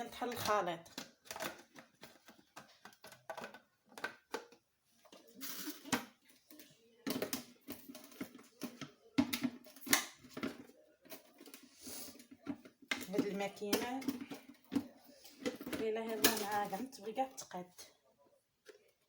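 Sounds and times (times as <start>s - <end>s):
kitchen items clicking and knocking: 0.0s - 17.9s.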